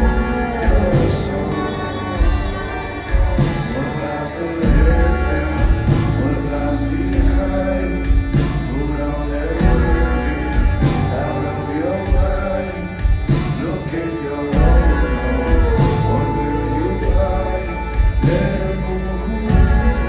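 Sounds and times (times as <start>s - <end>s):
acoustic guitar: 0.0s - 20.0s
fiddle: 0.0s - 20.0s
man singing: 0.0s - 20.0s
upright bass: 0.0s - 20.0s.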